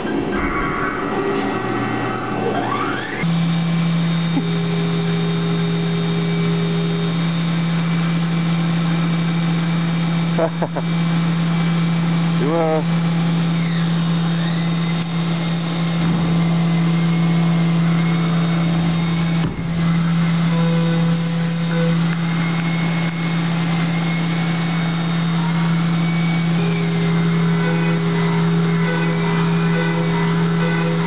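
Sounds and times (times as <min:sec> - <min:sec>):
mill cutting metal with singing tone: 0:00.0 - 0:31.0.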